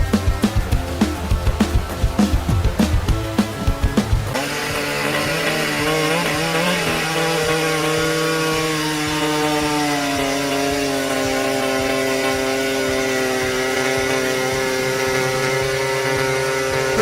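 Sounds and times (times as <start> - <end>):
chainsaw engine at high revs: 0.0 - 17.0.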